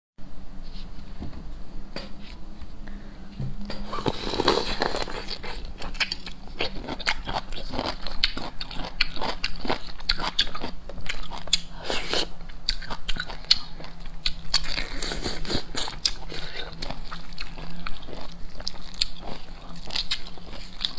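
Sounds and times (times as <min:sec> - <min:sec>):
person chewing seafood: 0:03.7 - 0:20.9.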